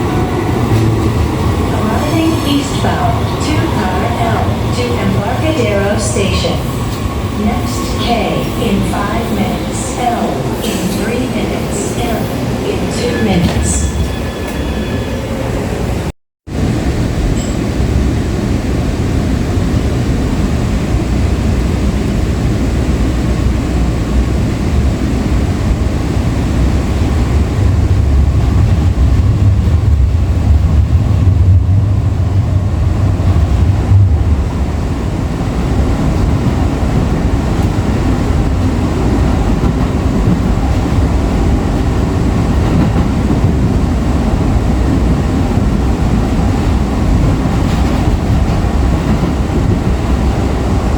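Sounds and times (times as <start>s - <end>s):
light rail car rumbling: 0.0s - 50.9s.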